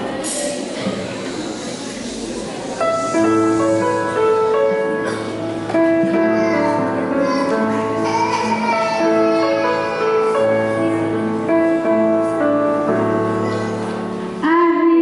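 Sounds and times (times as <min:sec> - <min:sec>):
keyboard playing chords and melody: 0:02.8 - 0:15.0.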